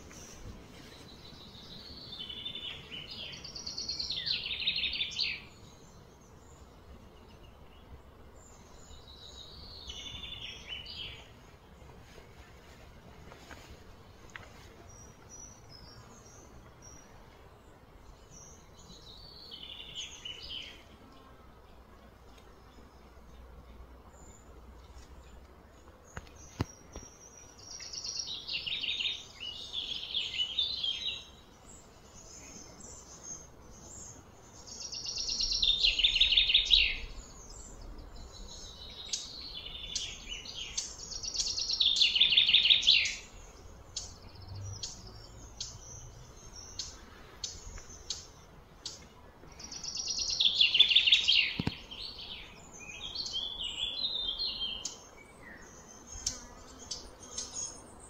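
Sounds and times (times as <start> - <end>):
bird chirping: 0.0 - 11.7, 14.2 - 58.0.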